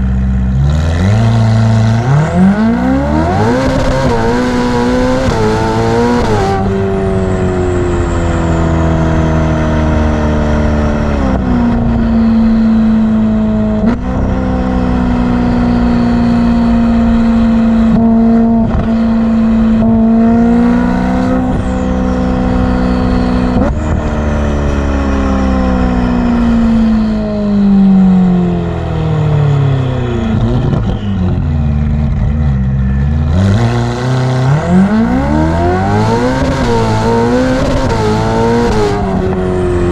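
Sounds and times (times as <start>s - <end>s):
car engine revving while driving: 0.0s - 39.9s.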